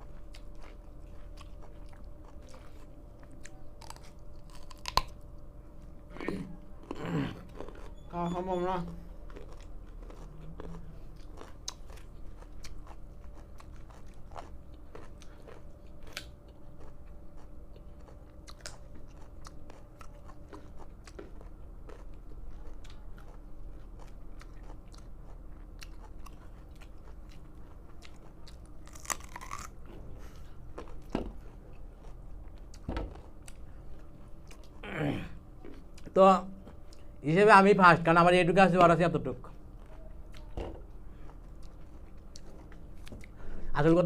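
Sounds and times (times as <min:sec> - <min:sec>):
carrots being chewed and crunched: 0:00.0 - 0:08.1, 0:09.0 - 0:34.9, 0:39.3 - 0:43.4.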